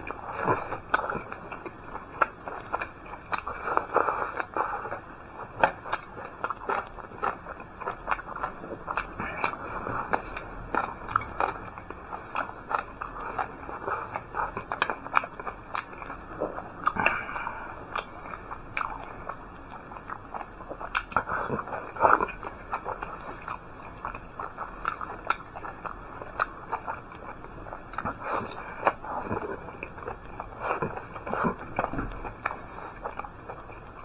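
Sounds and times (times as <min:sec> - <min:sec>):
person chewing food: 0:00.0 - 0:34.0
wet mouth clicks and crunches: 0:00.1 - 0:34.0.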